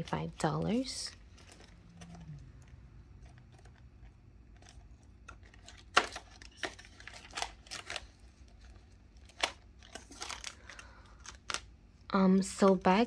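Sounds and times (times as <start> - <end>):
banknotes and envelope crinkling: 0.0 - 11.8.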